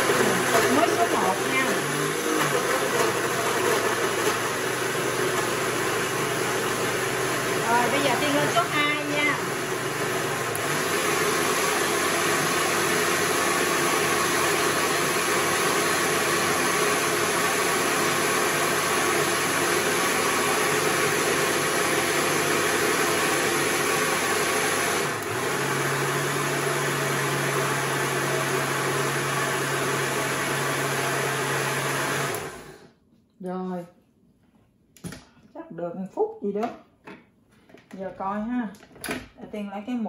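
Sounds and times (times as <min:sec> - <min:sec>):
blender motor whirring: 0:00.0 - 0:32.9.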